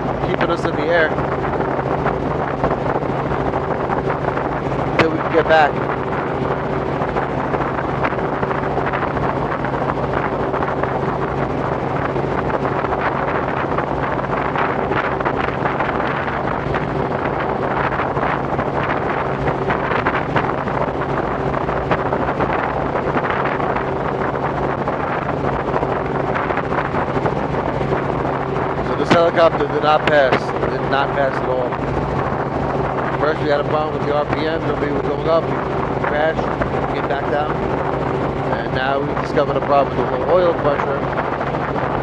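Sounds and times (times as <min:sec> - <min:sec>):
helicopter engine and rotors drone: 0:00.0 - 0:42.0
wind buffeting microphone: 0:00.0 - 0:42.0.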